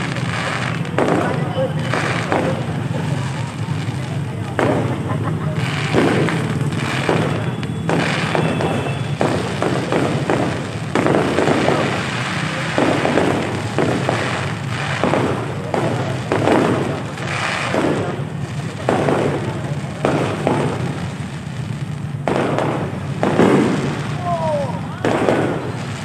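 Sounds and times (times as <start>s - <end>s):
firework shells bursting: 0.0s - 26.0s.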